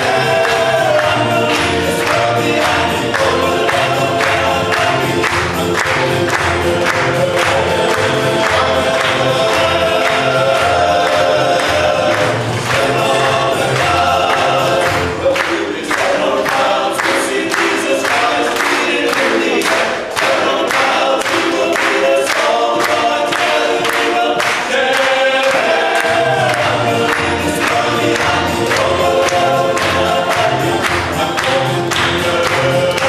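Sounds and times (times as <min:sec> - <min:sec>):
men's vocal group singing harmony: 0:00.0 - 0:33.0
percussive beat: 0:00.0 - 0:33.0.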